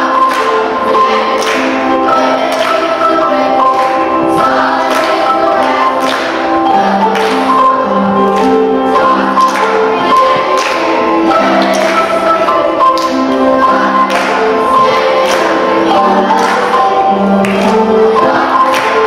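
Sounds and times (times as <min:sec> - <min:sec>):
children's choir singing gospel: 0:00.0 - 0:19.0
hands clapping along: 0:00.0 - 0:19.0.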